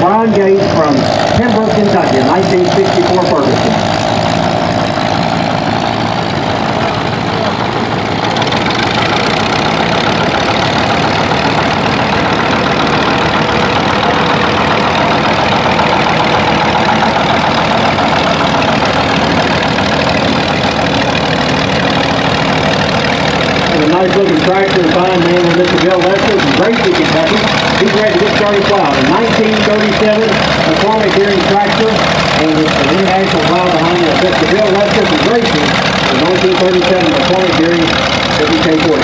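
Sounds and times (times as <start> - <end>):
tractor engines running: 0.0 - 39.0.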